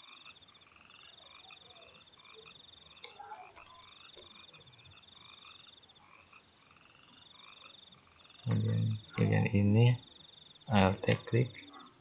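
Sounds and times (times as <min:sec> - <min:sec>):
frogs croaking: 0:00.0 - 0:12.0.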